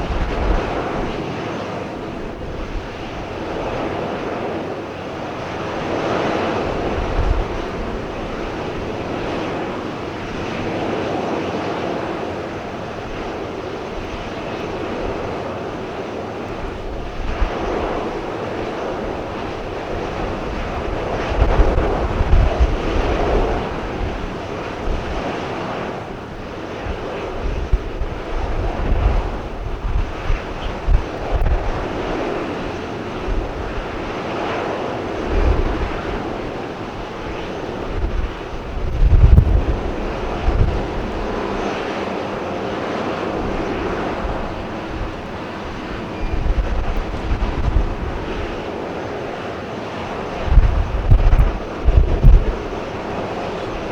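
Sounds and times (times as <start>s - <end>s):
jet engines roaring: 0.0s - 53.9s
wind gusts on microphone: 0.0s - 53.9s.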